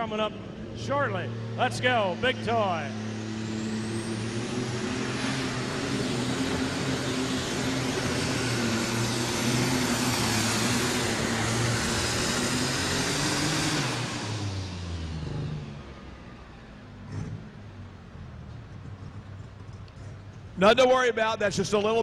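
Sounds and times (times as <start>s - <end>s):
tractor engine under full power: 0.0s - 21.3s.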